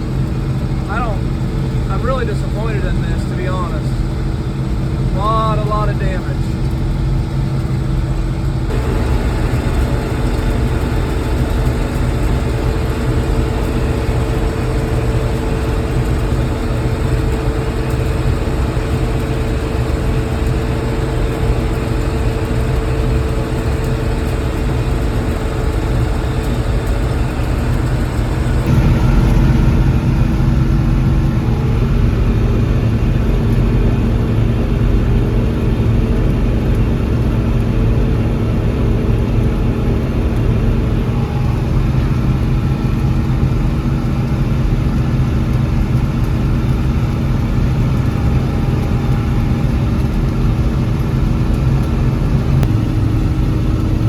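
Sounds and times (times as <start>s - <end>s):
combine harvester humming: 0.0s - 54.0s.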